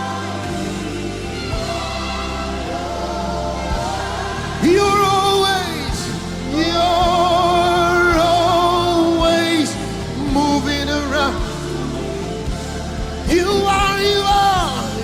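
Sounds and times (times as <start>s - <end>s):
slow gospel worship music: 0.0s - 15.0s.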